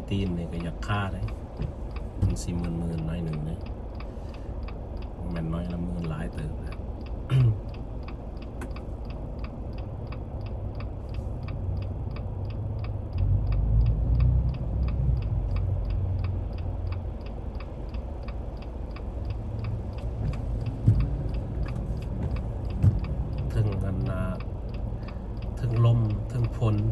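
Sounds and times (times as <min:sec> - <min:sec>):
car road rumble: 0:00.0 - 0:26.9
steady even ticking: 0:00.0 - 0:26.9.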